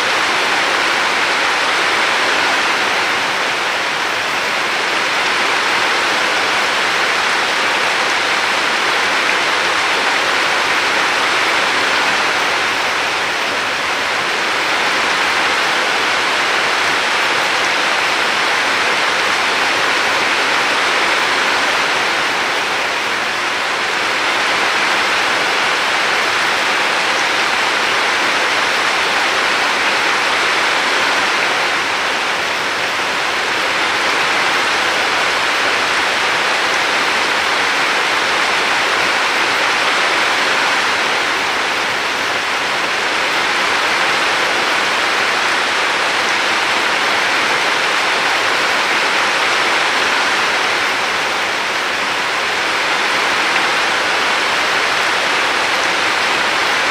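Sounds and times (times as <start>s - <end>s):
flowing river water: 0.0s - 56.9s.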